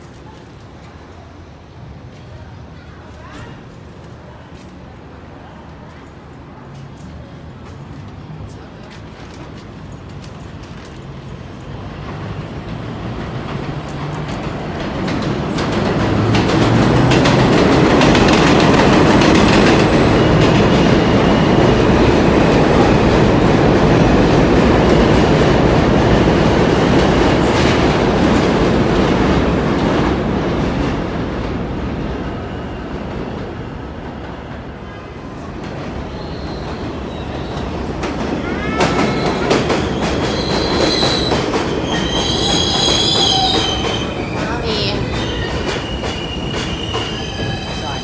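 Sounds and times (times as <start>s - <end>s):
train wheels clattering over rails: 6.0s - 48.0s.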